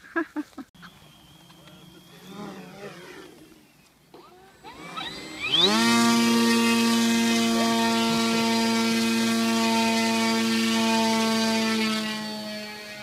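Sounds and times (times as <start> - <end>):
electric motor and propeller whine: 0.8 - 13.0.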